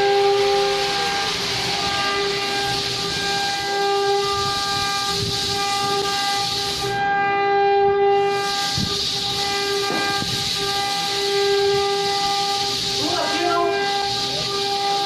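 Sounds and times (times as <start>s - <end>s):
hiss: 0.0s - 7.0s, 8.3s - 15.0s
sawmill saw whining: 0.0s - 15.0s.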